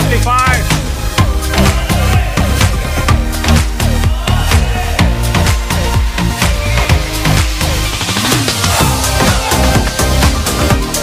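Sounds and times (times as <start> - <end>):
electronic music with drum beat: 0.0 - 11.0
gliding melodic sweep: 0.0 - 11.0.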